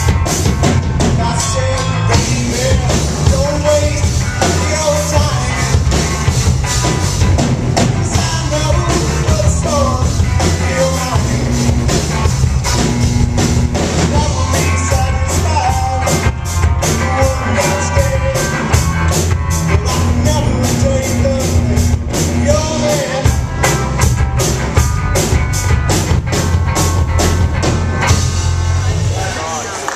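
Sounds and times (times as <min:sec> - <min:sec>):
drum kit beat: 0:00.0 - 0:29.6
rock song with singing: 0:00.0 - 0:29.9.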